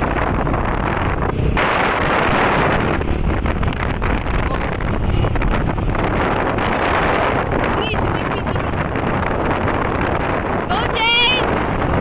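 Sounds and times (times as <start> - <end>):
low vehicle rumble: 0.0 - 12.0
wind buffeting microphone: 0.0 - 12.0.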